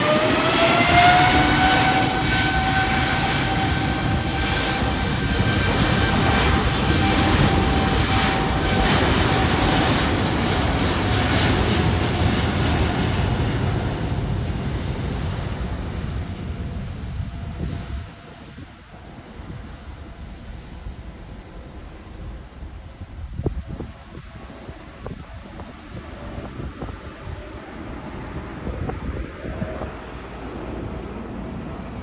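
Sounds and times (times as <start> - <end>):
jet engine roar and whine: 0.0 - 32.0.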